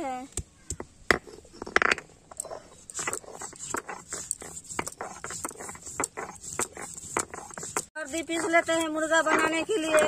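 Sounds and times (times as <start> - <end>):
stone grinding on stone: 1.1 - 10.0.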